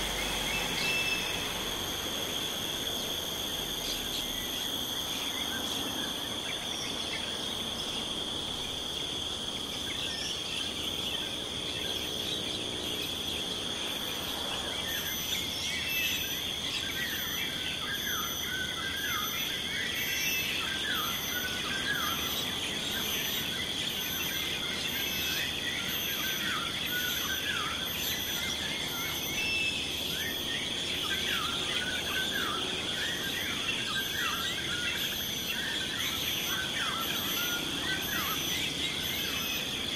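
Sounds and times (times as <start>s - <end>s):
insects droning: 0.0s - 39.9s
insects pulsing calls: 0.0s - 39.9s.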